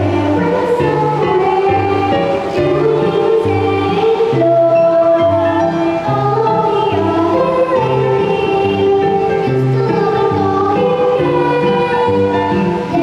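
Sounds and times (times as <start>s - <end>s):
children's choir singing: 0.0s - 13.0s
instrumental accompaniment: 0.0s - 13.0s.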